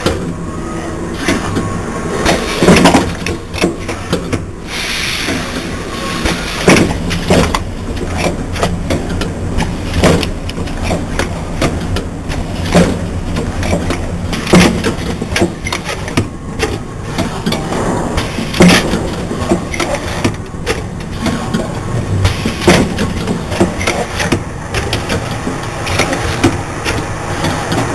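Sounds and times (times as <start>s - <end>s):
machine humming: 0.0s - 27.9s.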